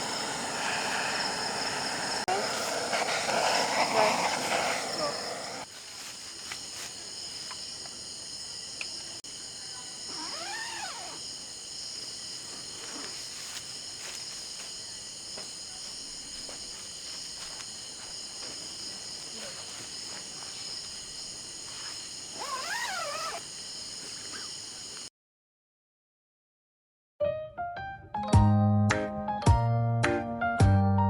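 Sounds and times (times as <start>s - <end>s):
crickets chirping: 0.0s - 25.1s.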